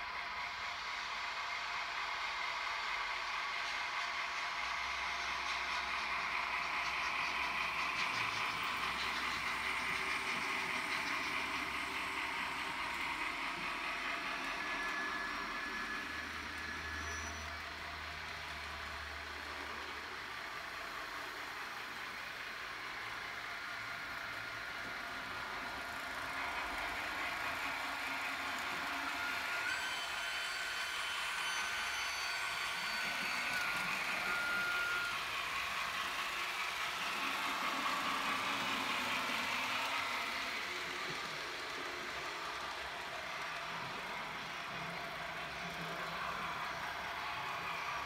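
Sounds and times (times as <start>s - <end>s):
model train running on track: 0.0s - 48.0s.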